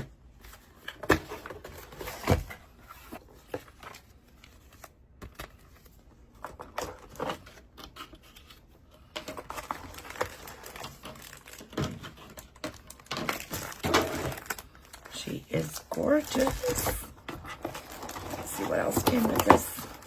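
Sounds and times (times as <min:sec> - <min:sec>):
packaging rustling and crinkling: 0:00.4 - 0:20.0.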